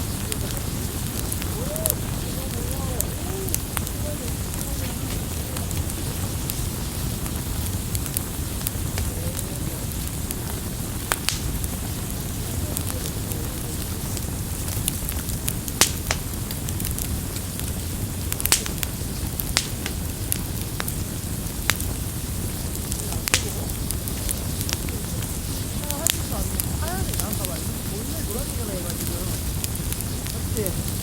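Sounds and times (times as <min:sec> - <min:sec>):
fire crackles and pops: 0:00.0 - 0:31.0
flames rumbling: 0:00.0 - 0:31.0.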